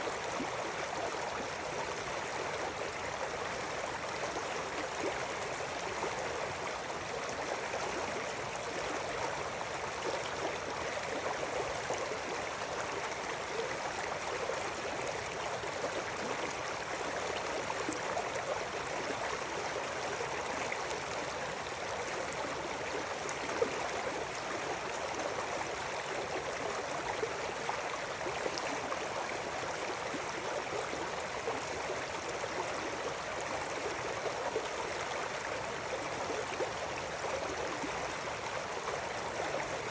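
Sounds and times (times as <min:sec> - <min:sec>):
river babbling over stones: 0:00.1 - 0:39.9.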